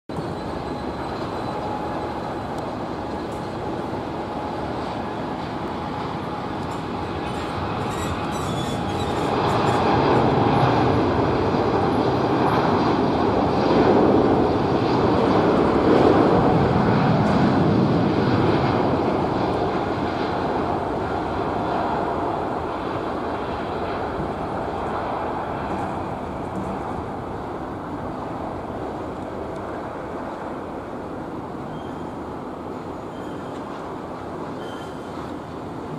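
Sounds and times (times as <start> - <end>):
distant jet engines rushing: 0.1 - 35.9.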